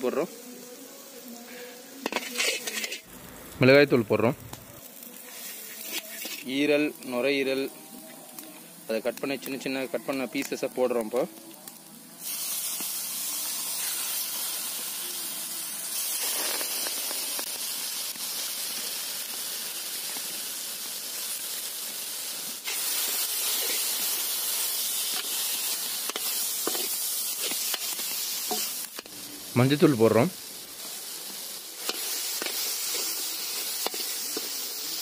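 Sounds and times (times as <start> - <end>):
meat sizzling in hot oil: 0.0 - 35.0.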